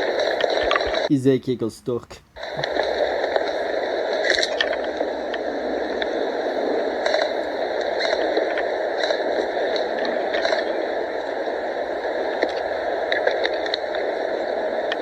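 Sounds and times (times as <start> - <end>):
faint clicks: 0.0 - 1.1, 2.1 - 11.4, 12.2 - 15.0
steady rushing noise: 0.0 - 1.2, 2.3 - 15.0.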